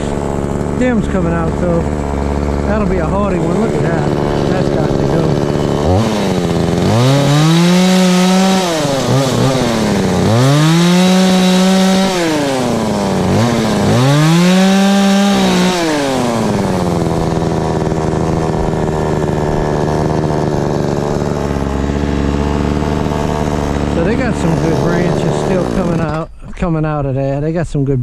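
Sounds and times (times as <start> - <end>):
chainsaw revving and idling: 0.0 - 26.3.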